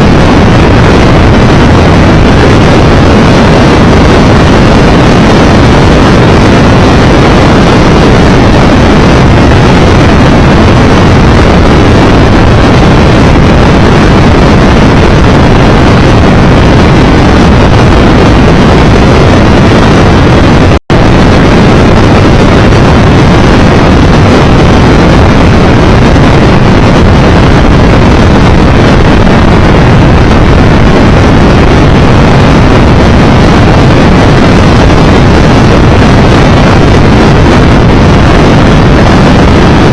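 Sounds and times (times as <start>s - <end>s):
motorcycle riding at speed: 0.0s - 39.9s
wind rush on microphone: 0.0s - 39.9s.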